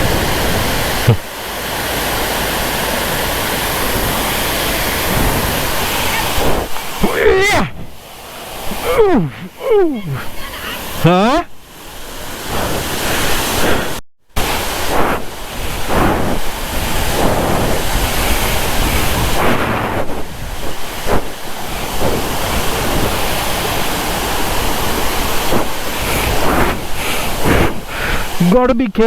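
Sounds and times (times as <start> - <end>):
waterfall rushing: 0.0 - 28.7.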